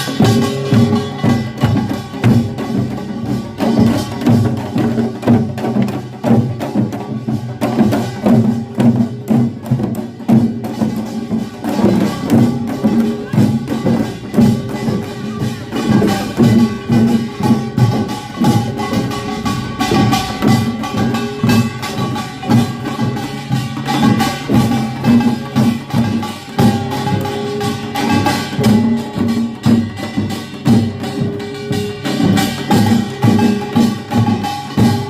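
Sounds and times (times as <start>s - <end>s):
drums beating fast rhythm: 0.0s - 35.0s.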